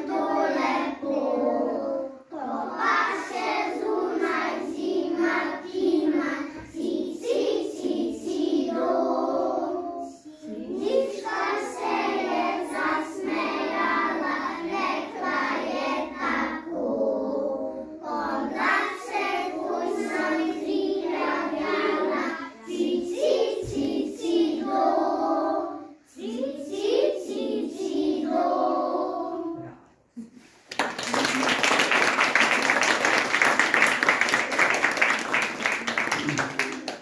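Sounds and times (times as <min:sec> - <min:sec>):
children singing in unison: 0:00.0 - 0:29.9.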